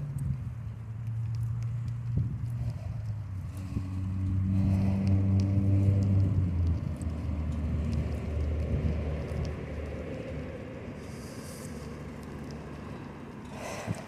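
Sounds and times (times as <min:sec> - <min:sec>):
low wind: 0:00.0 - 0:14.0
road noise: 0:00.0 - 0:14.0
vehicle passing by: 0:00.0 - 0:14.0.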